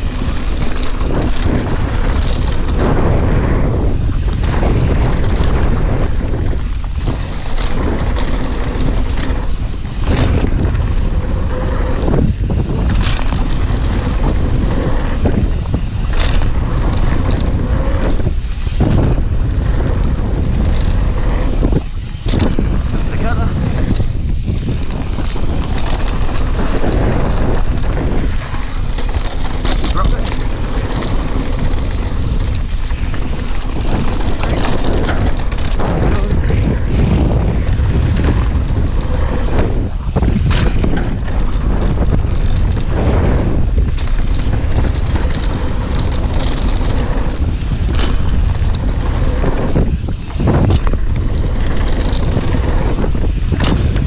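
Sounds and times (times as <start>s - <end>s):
bike tyres and frame rattling: 0.0s - 54.0s
wind buffeting microphone: 0.0s - 54.0s.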